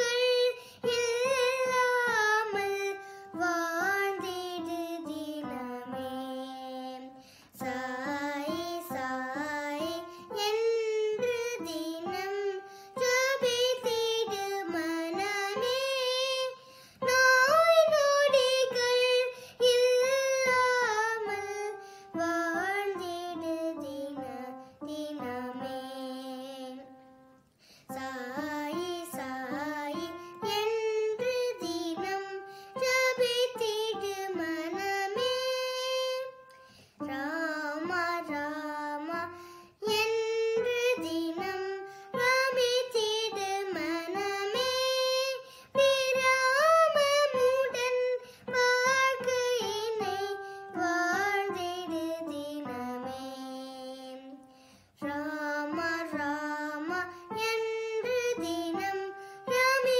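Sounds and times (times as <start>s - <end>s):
girl singing: 0.0s - 59.9s.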